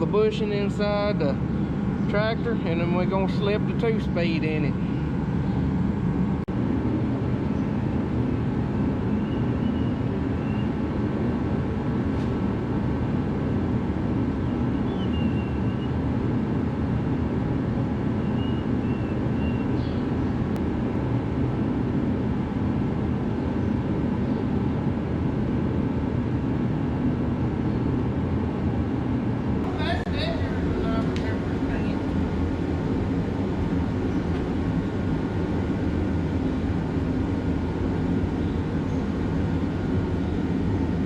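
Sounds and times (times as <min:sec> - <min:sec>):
shop heater humming: 0:00.0 - 0:41.0.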